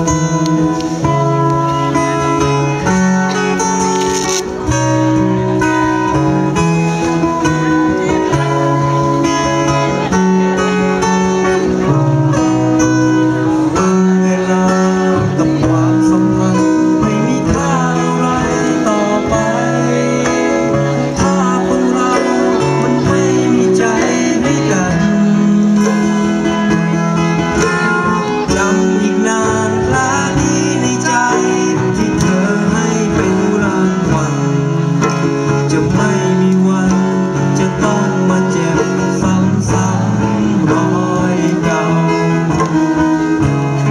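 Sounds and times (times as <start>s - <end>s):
acoustic guitars: 0.0s - 43.9s
live band playing a ballad: 0.0s - 43.9s.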